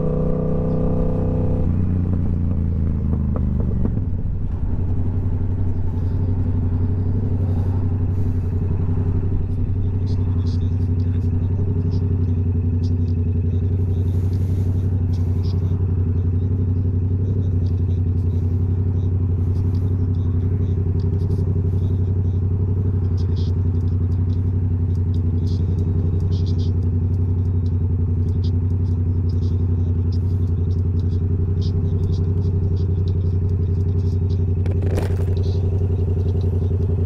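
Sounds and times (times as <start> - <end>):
motorcycle engine running steadily: 0.0 - 37.0.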